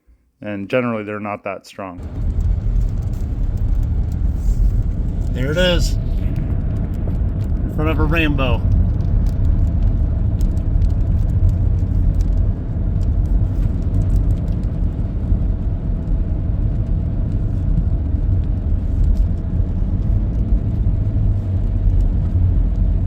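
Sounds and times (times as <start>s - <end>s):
car rumble: 2.0s - 23.0s.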